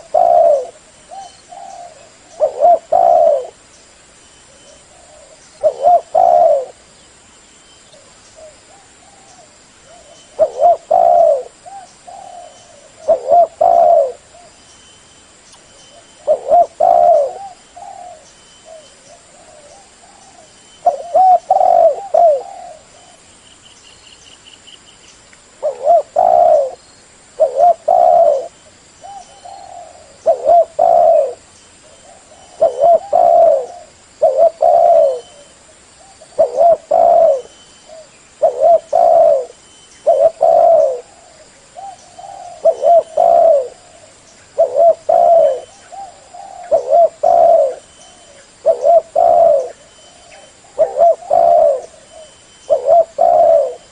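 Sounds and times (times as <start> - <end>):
dove cooing: 0.0 - 3.7, 4.5 - 6.9, 8.0 - 14.6, 15.9 - 23.2, 25.6 - 26.8, 27.4 - 53.9.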